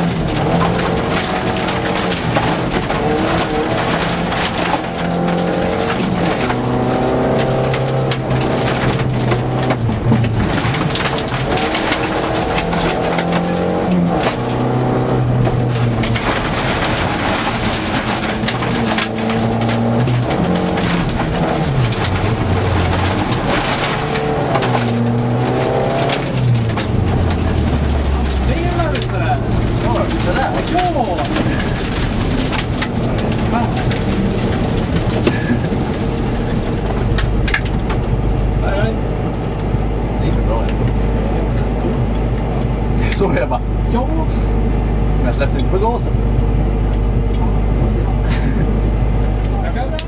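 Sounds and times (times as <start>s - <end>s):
gravel rattling against car underside: 0.0s - 50.0s
rally car engine at full throttle: 0.0s - 50.0s.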